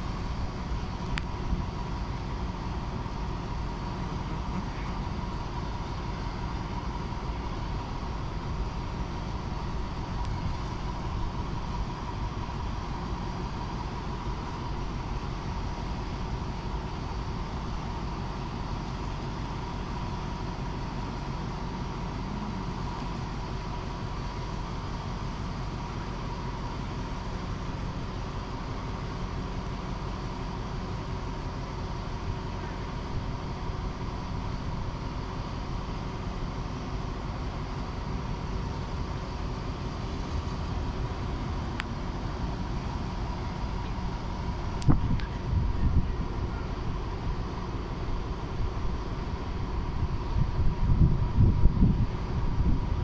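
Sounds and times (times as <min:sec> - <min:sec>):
diesel locomotive engine rumble: 0:00.0 - 0:53.0
thin steady whine: 0:00.0 - 0:53.0.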